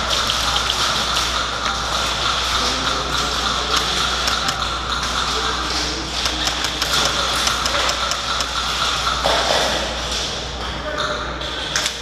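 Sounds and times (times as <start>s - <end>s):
warehouse background hum: 0.0s - 12.0s.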